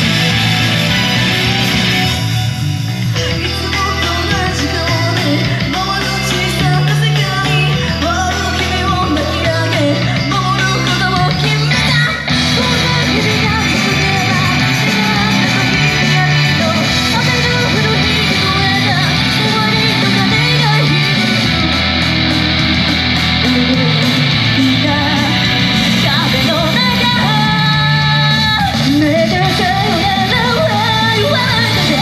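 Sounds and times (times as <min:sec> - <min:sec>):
rock pop song with electric guitar: 0:00.0 - 0:32.0
person singing: 0:03.2 - 0:32.0.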